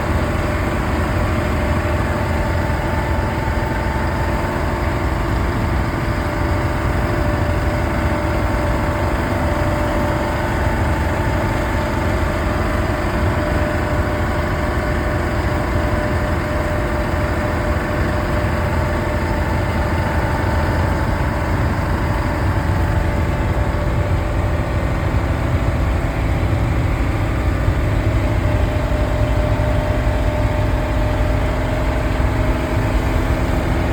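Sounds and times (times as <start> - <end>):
truck engine and road noise: 0.0 - 33.9.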